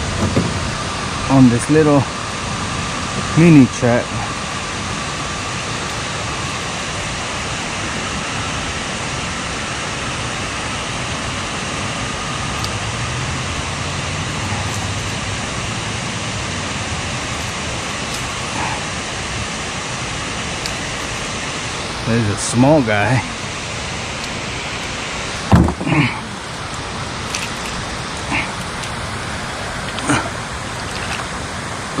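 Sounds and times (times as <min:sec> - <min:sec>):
water rushing through dam: 0:00.0 - 0:32.0.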